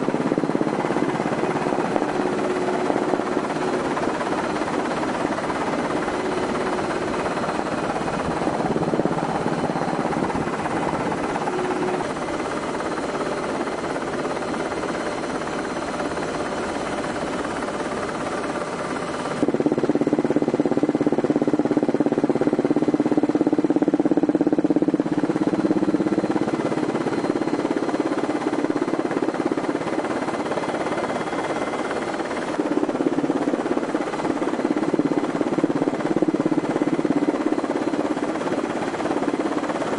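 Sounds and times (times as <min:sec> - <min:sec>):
aircraft engines droning: 0:00.0 - 0:39.9
faint high whine: 0:00.0 - 0:39.9.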